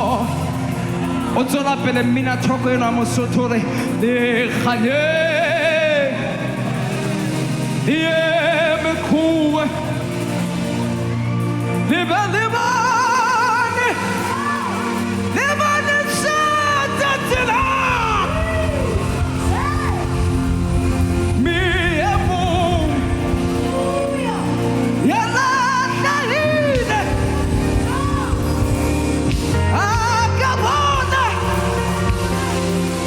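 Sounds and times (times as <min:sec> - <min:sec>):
person singing with vibrato: 0:00.0 - 0:10.8, 0:11.6 - 0:33.0
band playing: 0:00.0 - 0:33.0.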